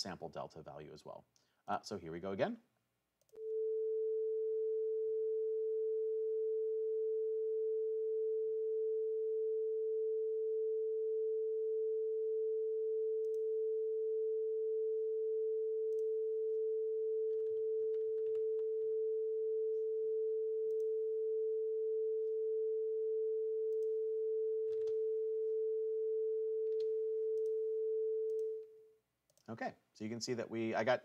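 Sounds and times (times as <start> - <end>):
steady sine tone: 3.4 - 28.8.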